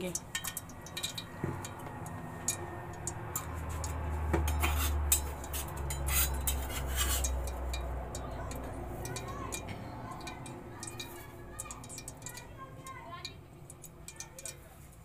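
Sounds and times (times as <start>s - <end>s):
oil clicking in heating pot: 0.0s - 15.0s.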